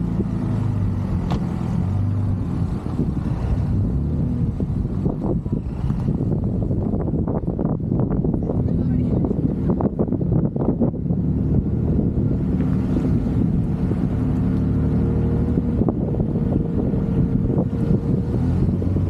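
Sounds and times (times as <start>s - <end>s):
car engine running: 0.0s - 19.0s
wind noise on microphone: 0.0s - 19.0s.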